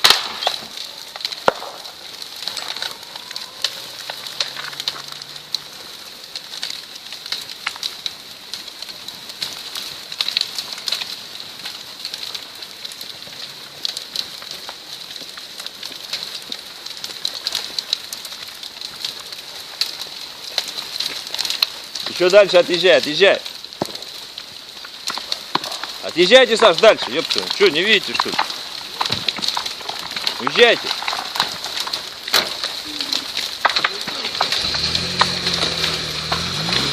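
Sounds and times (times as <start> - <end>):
rock cracking and snapping: 0.0 - 36.9.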